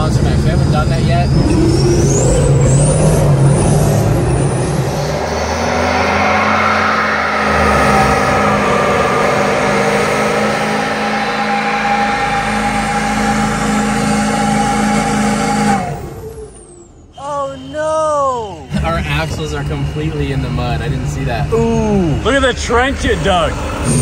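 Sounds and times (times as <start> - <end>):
truck diesel engine revving hard: 0.0 - 17.0, 18.6 - 24.0.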